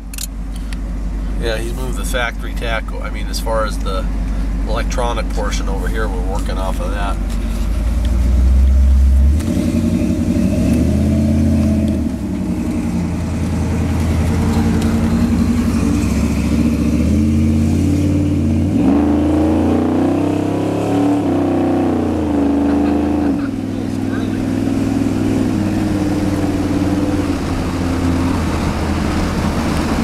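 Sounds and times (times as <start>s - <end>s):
pickup truck engine while driving: 0.0s - 30.0s.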